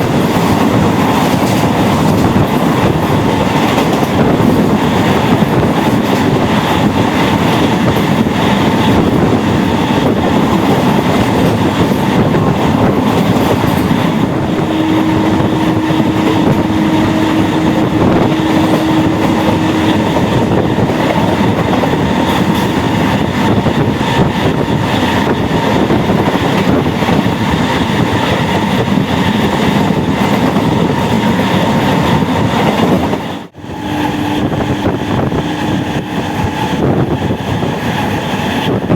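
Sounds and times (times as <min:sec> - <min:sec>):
train wheels clattering on track: 0:00.0 - 0:38.9.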